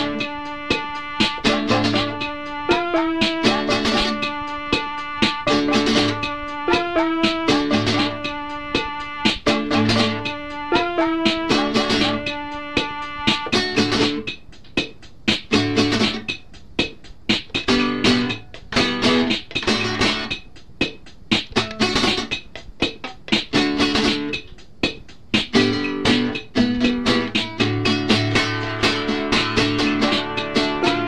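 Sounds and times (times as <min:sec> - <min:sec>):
instrumental guitar music: 0:00.0 - 0:31.0.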